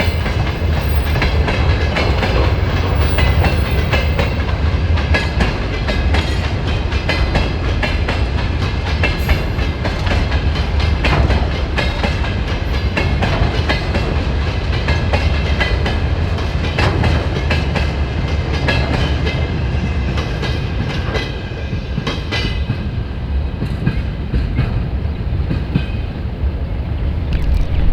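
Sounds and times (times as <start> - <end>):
train wheels clattering over rail joints: 0.0 - 26.0.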